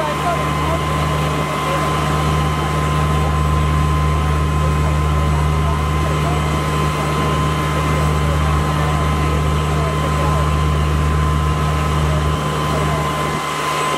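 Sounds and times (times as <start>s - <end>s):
faint voices: 0.0s - 13.9s
fire engine droning: 0.0s - 13.9s
pump whine: 0.0s - 13.9s.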